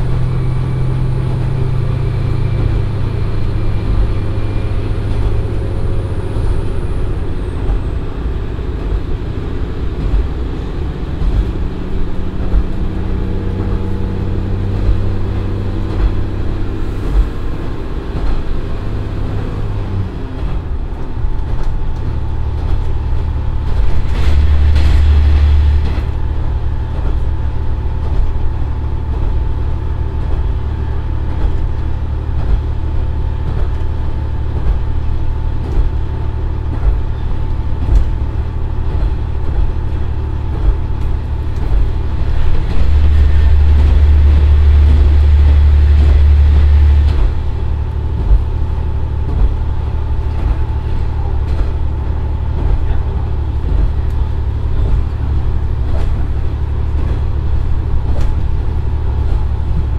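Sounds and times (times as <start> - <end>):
diesel railcar engine drone: 0.0 - 59.9
steady high whine: 0.0 - 59.9
wheels on rails: 0.0 - 59.9.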